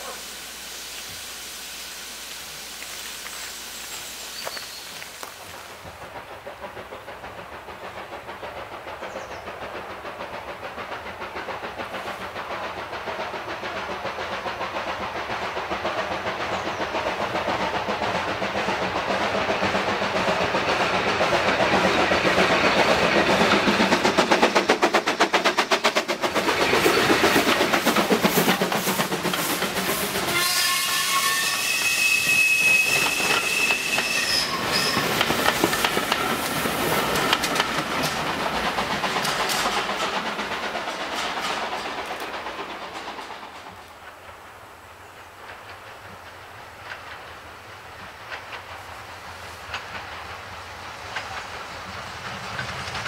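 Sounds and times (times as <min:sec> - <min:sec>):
steam locomotive exhaust beats: 0:00.0 - 0:53.0
train wheels clicking over rail joints: 0:02.2 - 0:53.0.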